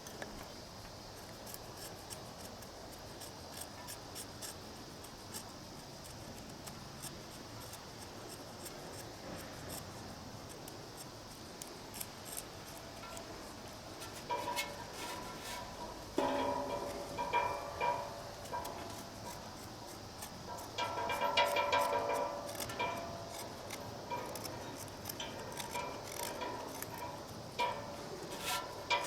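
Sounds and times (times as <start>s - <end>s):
faint steady hiss: 0.0s - 29.0s.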